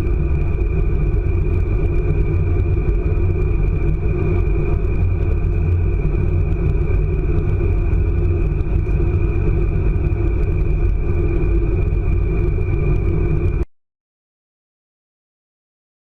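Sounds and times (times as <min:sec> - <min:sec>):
train wheels rumbling on rail: 0:00.0 - 0:13.6.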